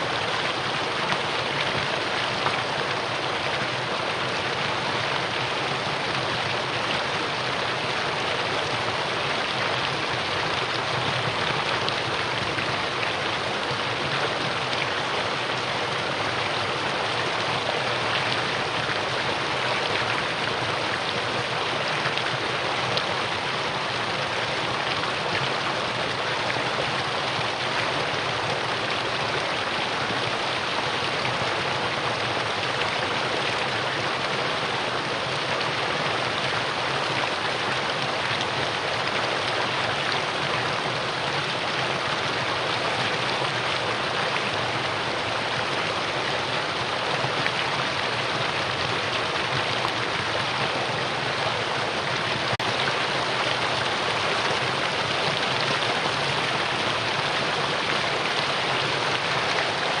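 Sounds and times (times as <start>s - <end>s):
stream water flowing: 0.0s - 60.0s.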